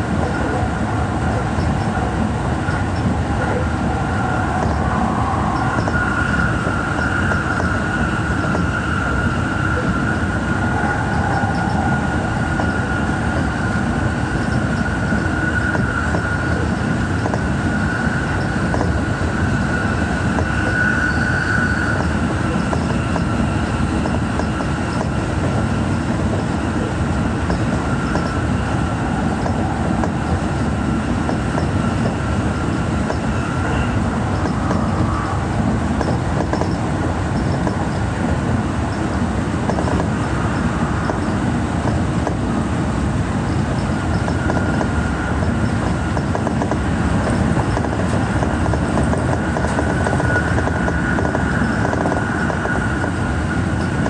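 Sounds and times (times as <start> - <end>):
high whine: 0.0 - 54.0
train wheels rumbling on rail: 0.0 - 54.0.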